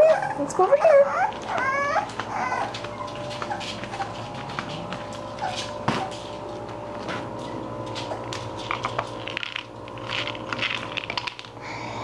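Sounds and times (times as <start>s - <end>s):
puppy claws clicking on wooden floor: 1.3s - 11.6s.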